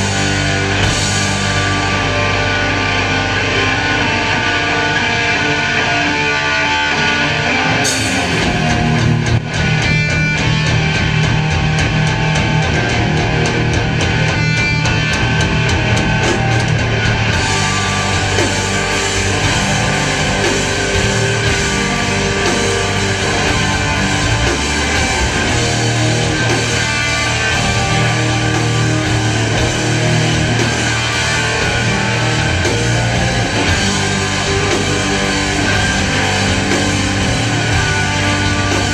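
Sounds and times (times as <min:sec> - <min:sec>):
heavy metal band playing live: 0:00.0 - 0:38.9.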